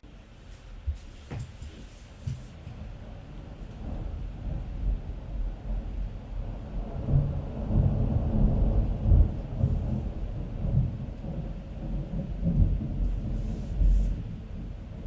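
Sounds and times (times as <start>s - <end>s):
thunder rumbling: 2.6s - 15.0s.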